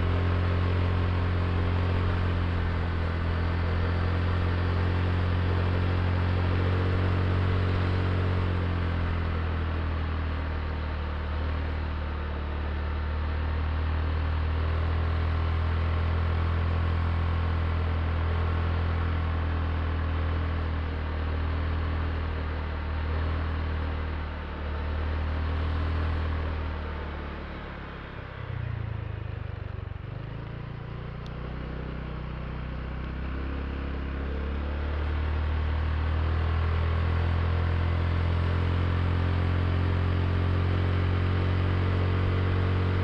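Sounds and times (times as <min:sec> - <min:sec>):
scooter engine running: 0:00.0 - 0:43.0.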